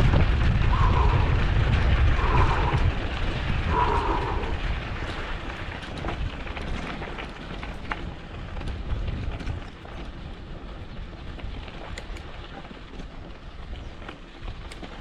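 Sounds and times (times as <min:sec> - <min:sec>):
bike tyres crunching on gravel: 0:00.0 - 0:15.0
wind rumble on microphone: 0:00.0 - 0:15.0.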